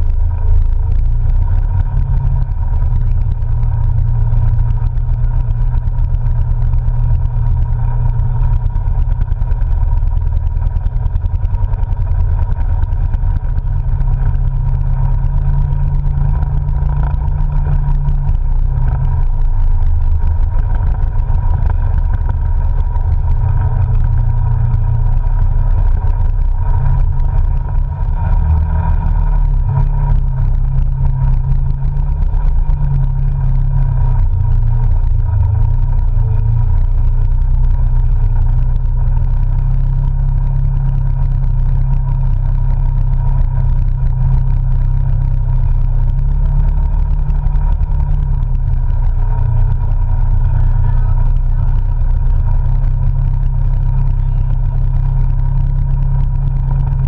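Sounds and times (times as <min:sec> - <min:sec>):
vehicle engine low drone: 0:00.0 - 0:57.0.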